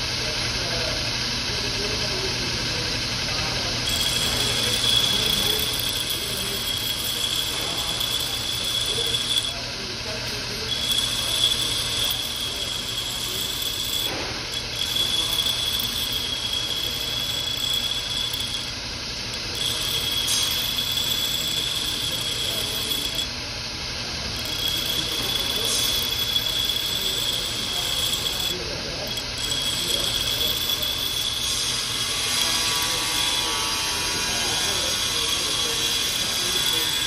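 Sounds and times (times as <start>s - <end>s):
high steady squeal of grinding: 2.7s - 37.0s
bench grinder humming: 3.8s - 23.4s, 24.2s - 37.0s.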